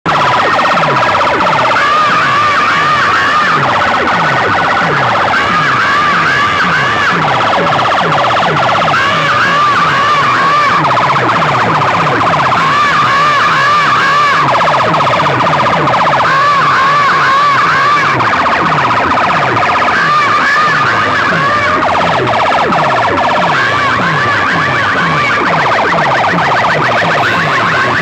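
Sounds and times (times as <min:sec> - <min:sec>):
fast buzzing alarm pulse: 0:00.1 - 0:28.0
warbling siren effect: 0:00.1 - 0:28.0.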